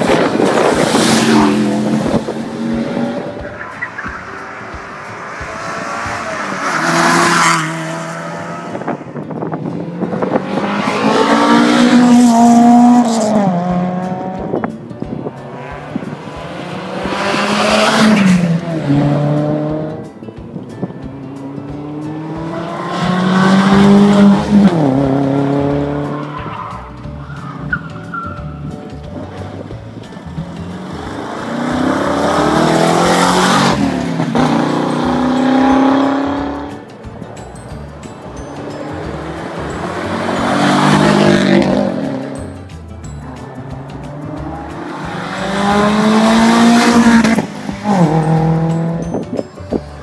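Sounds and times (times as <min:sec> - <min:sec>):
rally cars accelerating past: 0:00.0 - 0:14.7, 0:15.4 - 0:20.1, 0:21.7 - 0:28.5, 0:29.2 - 0:37.3, 0:38.6 - 0:42.4, 0:43.2 - 0:49.0.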